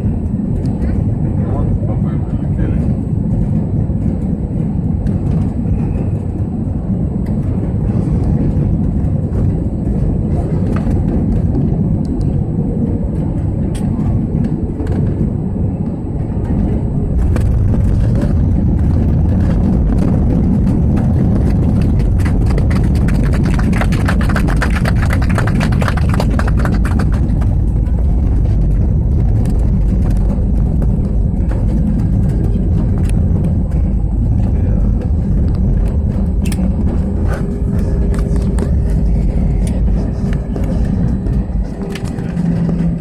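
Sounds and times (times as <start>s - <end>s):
aircraft cabin engine rumble: 0.0s - 43.0s.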